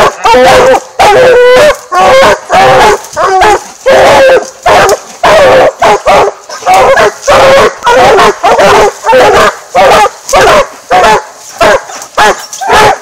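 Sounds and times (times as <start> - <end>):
dogs barking loudly: 0.0 - 13.0.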